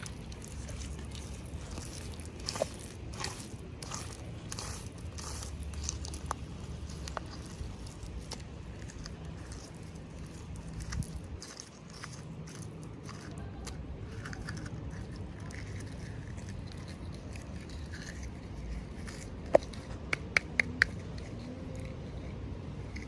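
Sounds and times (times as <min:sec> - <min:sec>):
packaging rustling and scraping: 0:00.0 - 0:20.1.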